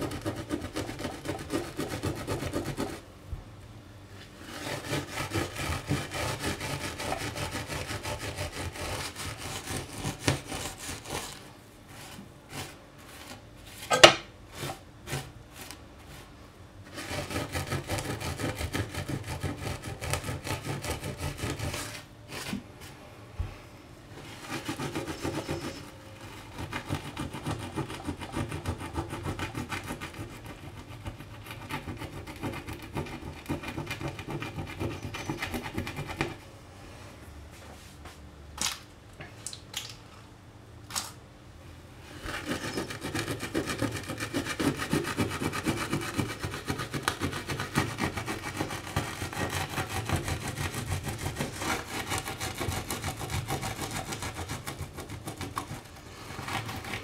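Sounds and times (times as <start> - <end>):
scouring pad rasping on hob: 4.3 - 23.0, 24.1 - 36.4, 42.1 - 57.0.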